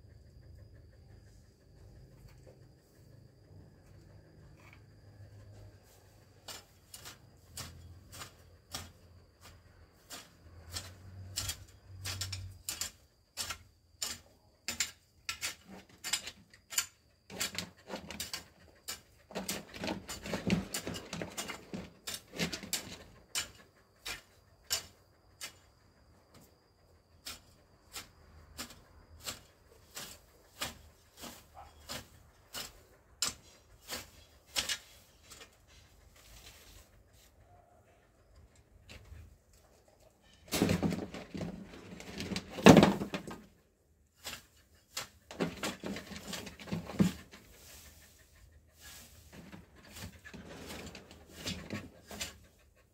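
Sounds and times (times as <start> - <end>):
garden tool scraping through soil: 5.5 - 25.6, 27.2 - 37.3, 40.0 - 52.9.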